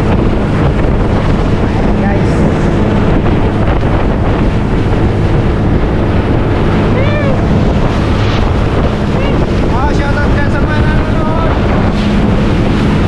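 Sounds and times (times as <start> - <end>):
boat engine droning: 0.0 - 13.0
water rushing past: 0.0 - 13.0
wind buffeting microphone: 0.0 - 13.0.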